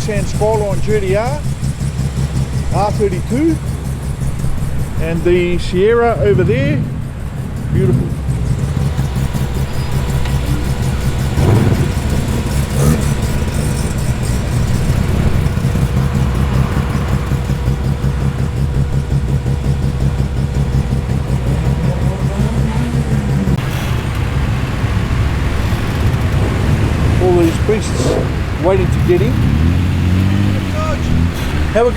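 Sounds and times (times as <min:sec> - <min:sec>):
car engines idling: 0:00.0 - 0:31.9.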